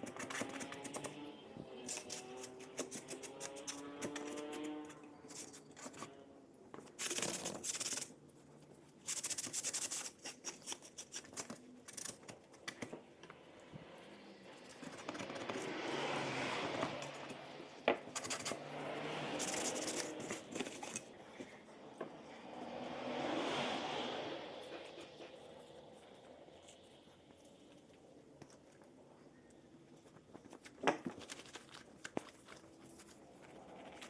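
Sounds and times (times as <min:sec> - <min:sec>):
plastic parts scratching and rubbing: 0:00.0 - 0:01.2, 0:01.8 - 0:13.3, 0:14.5 - 0:17.4, 0:18.0 - 0:18.7, 0:19.3 - 0:21.6, 0:25.0 - 0:34.0.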